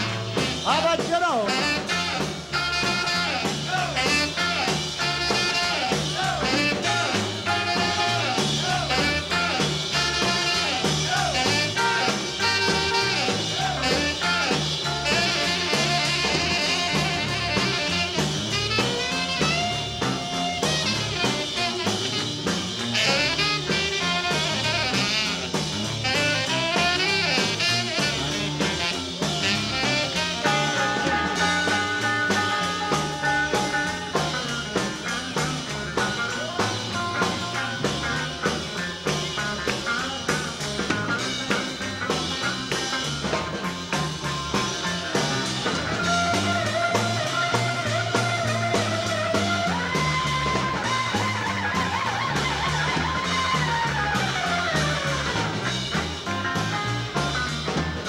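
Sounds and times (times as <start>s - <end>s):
drum kit: 0.0s - 58.0s
horns: 0.0s - 58.0s
rock and roll band playing: 0.0s - 58.0s.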